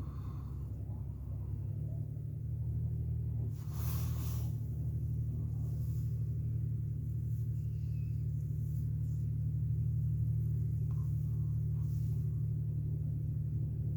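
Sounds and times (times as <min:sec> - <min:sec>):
tractor diesel engine under load: 0:00.0 - 0:13.9.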